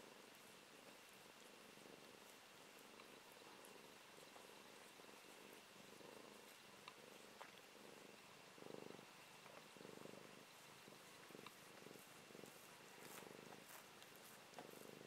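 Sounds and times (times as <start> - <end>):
cat snoring softly: 0.0 - 15.0.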